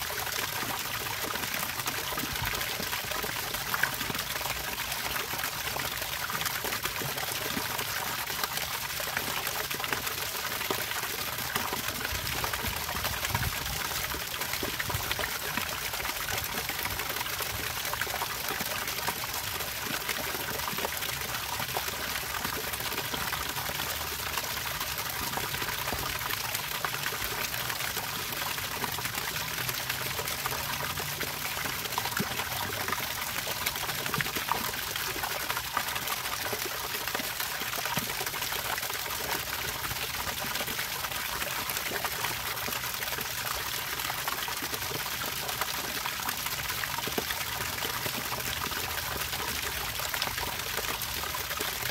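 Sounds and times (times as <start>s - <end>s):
water trickling and pouring: 0.0s - 51.9s.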